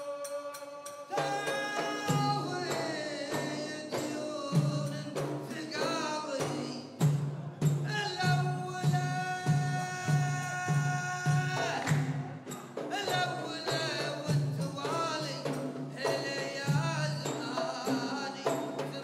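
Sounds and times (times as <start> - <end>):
frame drums: 0.0 - 19.0
men singing: 0.0 - 19.0.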